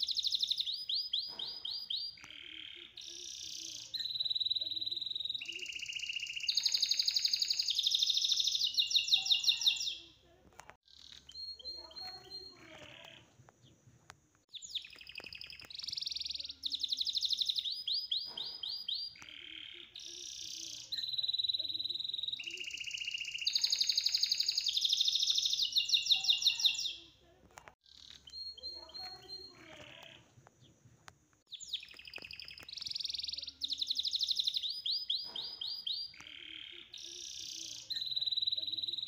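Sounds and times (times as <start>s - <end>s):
high bird-like chirping trills: 0.0s - 10.2s, 10.8s - 13.8s, 14.5s - 27.2s, 27.8s - 30.8s, 31.5s - 39.0s.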